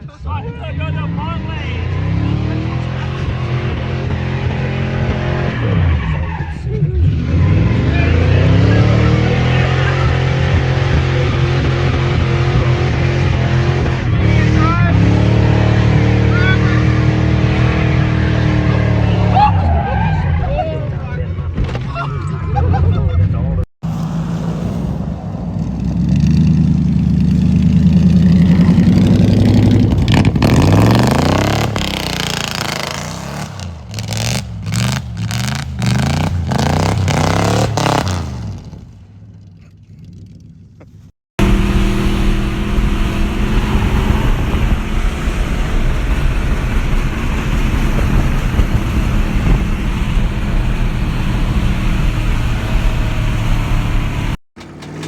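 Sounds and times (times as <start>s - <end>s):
car engine revving: 0.6s - 20.5s, 23.6s - 38.9s, 41.4s - 55.0s.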